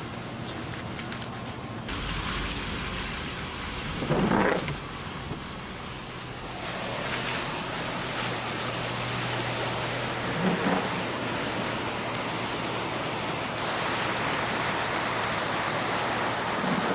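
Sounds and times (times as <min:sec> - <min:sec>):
rushing floodwater: 0:00.0 - 0:16.9.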